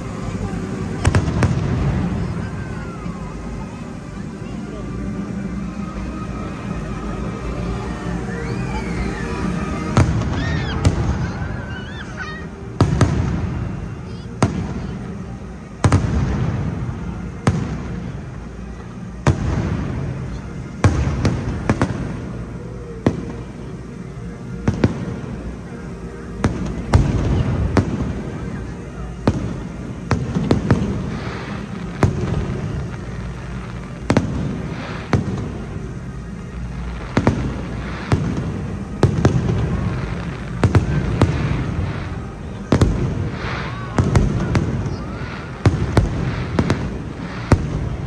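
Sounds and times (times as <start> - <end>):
fireworks bursting with sharp bangs: 0.0 - 48.0
low rumble and crackle: 0.0 - 48.0.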